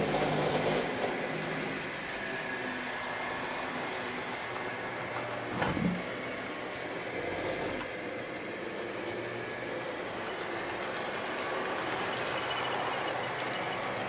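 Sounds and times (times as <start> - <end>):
model train wheels on rails: 0.0 - 14.0.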